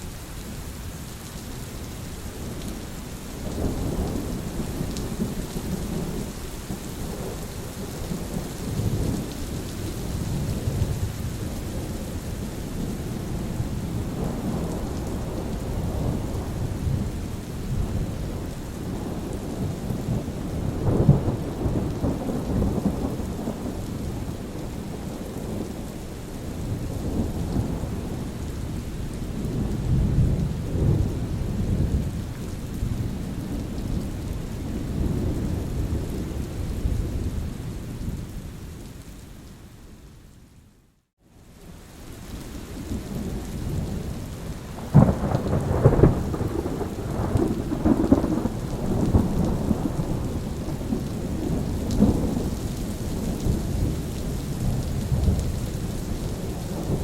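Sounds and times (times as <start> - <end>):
steady rain: 0.0 - 57.0
low rolling thunder: 3.4 - 38.6, 42.7 - 57.0.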